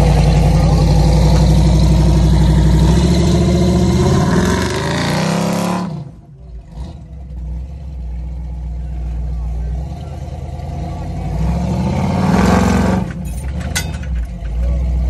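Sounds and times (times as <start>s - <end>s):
vehicle engine running under load: 0.0s - 15.0s.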